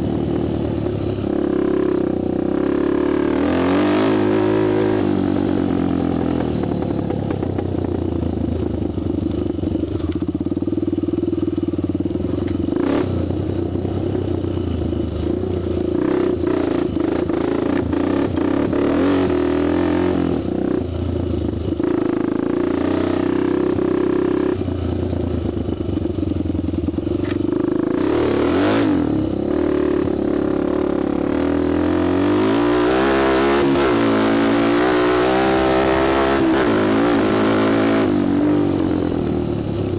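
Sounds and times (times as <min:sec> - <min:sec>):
quad engine revving: 0:00.0 - 0:14.2, 0:15.1 - 0:25.7, 0:27.1 - 0:39.9.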